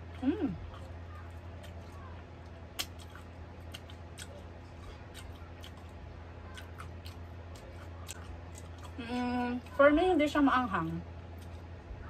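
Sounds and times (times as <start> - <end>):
person chewing food: 0.0 - 9.8, 10.8 - 12.0
low steady hum: 0.0 - 12.0.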